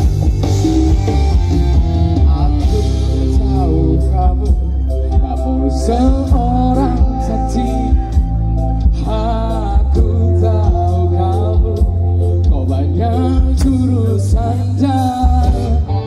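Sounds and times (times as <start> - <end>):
heavy bass: 0.0 - 16.0
live band through pa system: 0.0 - 16.0
sung melody: 0.0 - 16.0.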